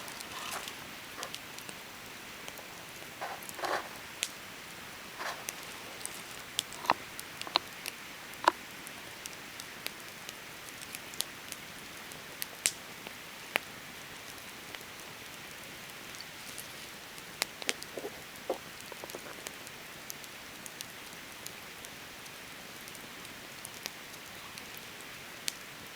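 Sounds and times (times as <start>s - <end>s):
fire hiss: 0.0s - 25.7s
campfire crackling and popping: 0.0s - 25.9s.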